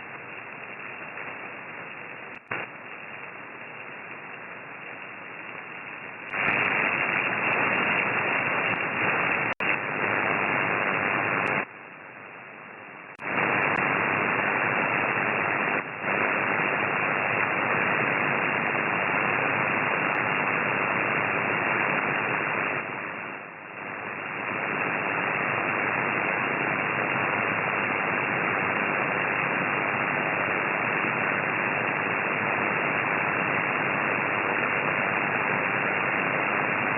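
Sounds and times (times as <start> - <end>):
radio static hiss: 0.0 - 36.9.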